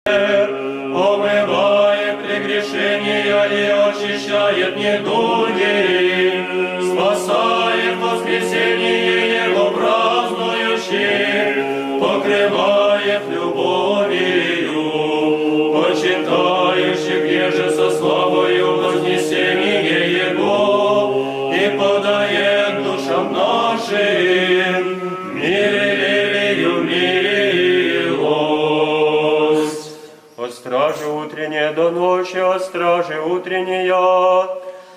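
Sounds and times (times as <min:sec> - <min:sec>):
choir chanting a hymn: 0:00.1 - 0:34.9.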